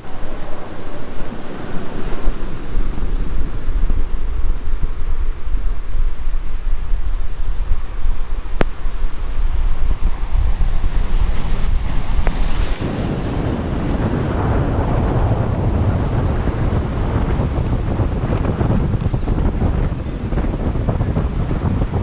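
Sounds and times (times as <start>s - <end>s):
surf breaking: 0.0s - 22.0s
wind buffeting microphone: 0.0s - 22.0s.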